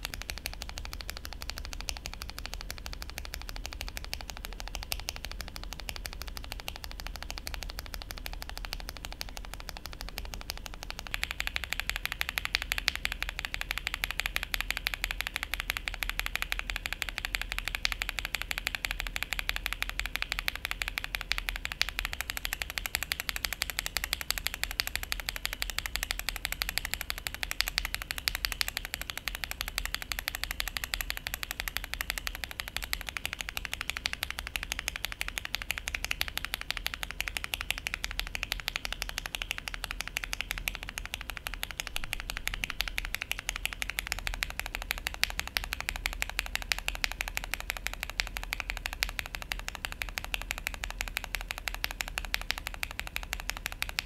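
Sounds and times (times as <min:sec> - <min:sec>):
rapid mechanical keyboard typing: 0:00.0 - 0:54.0.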